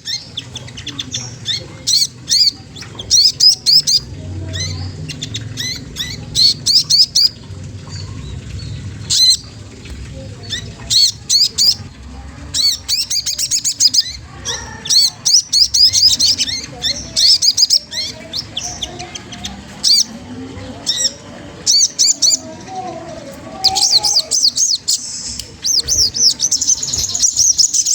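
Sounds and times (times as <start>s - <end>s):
bird chirping: 0.0s - 22.9s, 23.5s - 27.9s.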